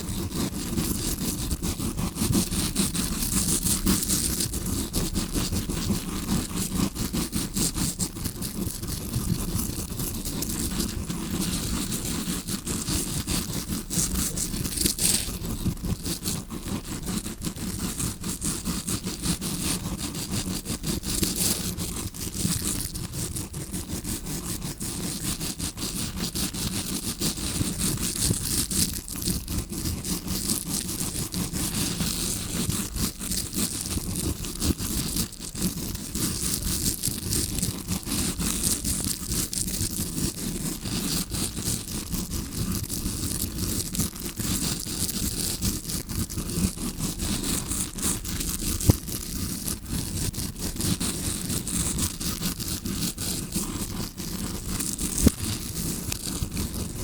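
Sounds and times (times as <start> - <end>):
scrubbing brush scraping microphone: 0.0 - 57.0.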